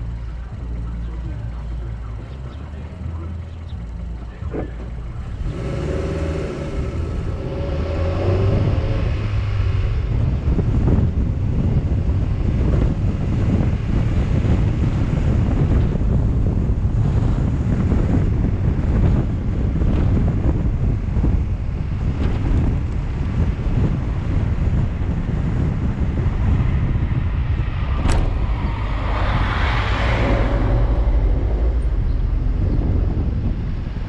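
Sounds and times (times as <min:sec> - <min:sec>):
road traffic rumble: 0:00.0 - 0:34.0
wavering engine drone: 0:00.0 - 0:34.0
wind buffeting microphone: 0:00.0 - 0:34.0.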